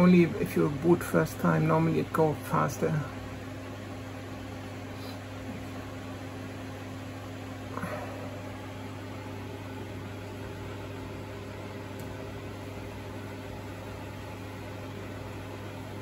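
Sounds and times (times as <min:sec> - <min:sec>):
low electrical hum with hiss: 0:00.0 - 0:16.0.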